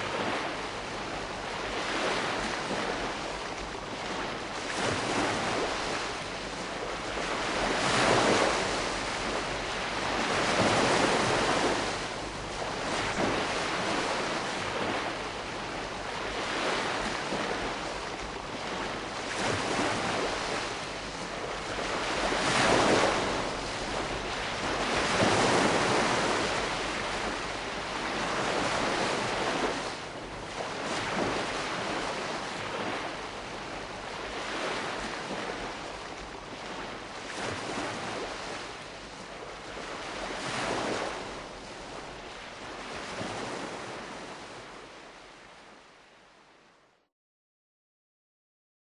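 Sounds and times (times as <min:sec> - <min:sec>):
small waves washing onto shore: 0:00.0 - 0:46.8.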